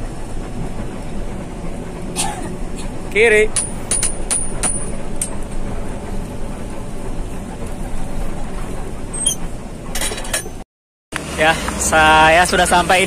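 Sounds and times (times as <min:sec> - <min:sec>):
bus engine and road rumble: 0:00.0 - 0:10.6, 0:11.2 - 0:13.0.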